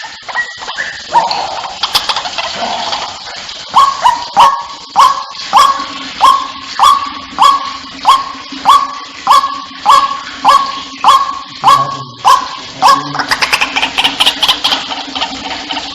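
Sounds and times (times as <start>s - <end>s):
waterhen calling: 0.0s - 15.9s.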